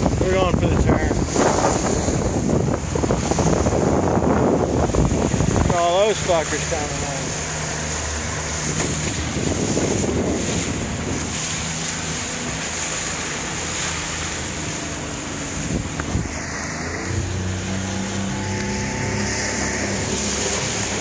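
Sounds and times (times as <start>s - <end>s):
outboard motor running: 0.0s - 21.0s
water splashing against hull: 0.0s - 21.0s
wind buffeting microphone: 0.0s - 21.0s.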